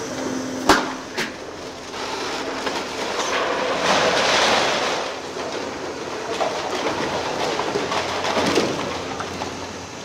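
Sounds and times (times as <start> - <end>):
diesel engine hum: 0.0 - 10.0
masonry and timber crashing down: 0.7 - 9.6
rubble clattering: 1.2 - 9.7.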